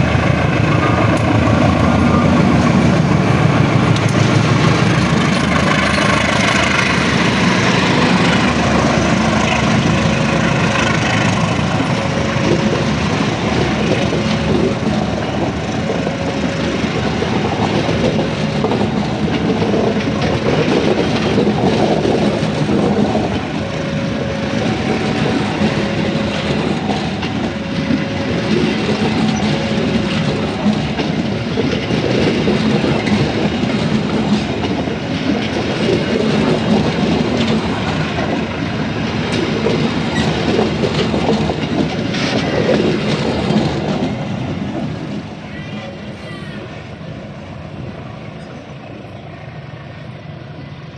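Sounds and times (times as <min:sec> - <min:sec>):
train rumble with wheel clatter: 0:00.0 - 0:50.9.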